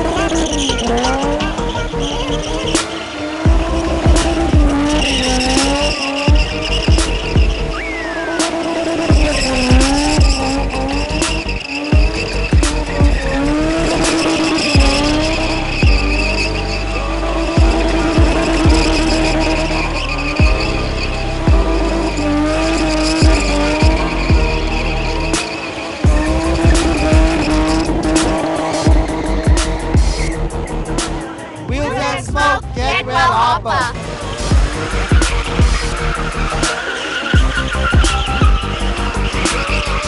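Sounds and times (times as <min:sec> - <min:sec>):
car engine at high revs: 0:00.0 - 0:32.8, 0:33.8 - 0:40.0
music with a regular beat: 0:00.0 - 0:40.0
tyres squealing: 0:00.0 - 0:40.0.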